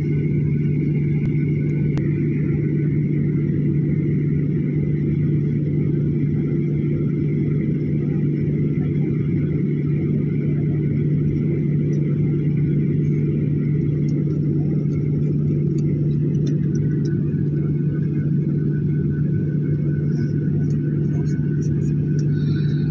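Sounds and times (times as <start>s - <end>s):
jet engines droning: 0.0s - 22.9s.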